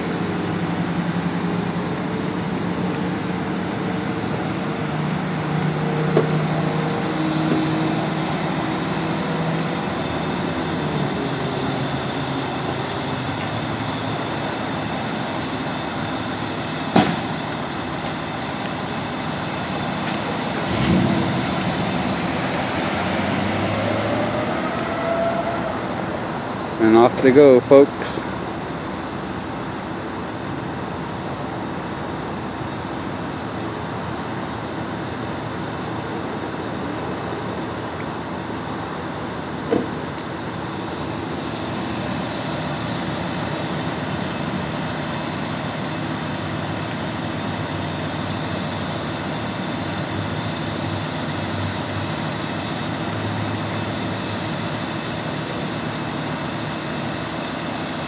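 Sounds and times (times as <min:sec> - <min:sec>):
idling vehicle engines hum: 0:00.0 - 0:58.0.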